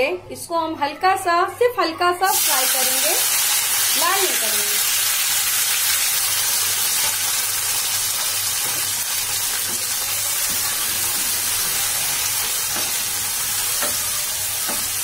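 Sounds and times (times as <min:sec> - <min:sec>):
vegetables sizzling in hot oil: 0:02.3 - 0:15.0.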